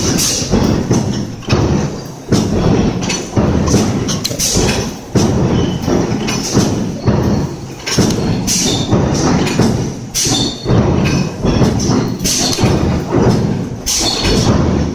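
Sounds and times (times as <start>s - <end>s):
clattering mechanical rumble: 0.0s - 14.9s
power press striking metal: 0.0s - 14.9s.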